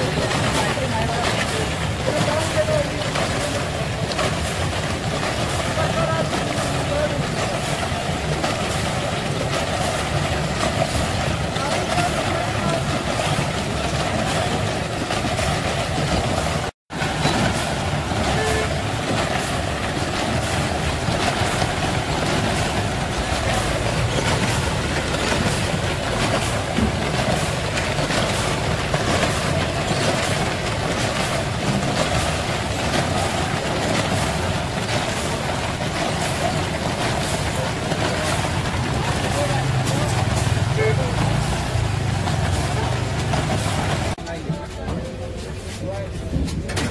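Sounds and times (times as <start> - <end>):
motor-driven rotating drum running: 0.0 - 46.9.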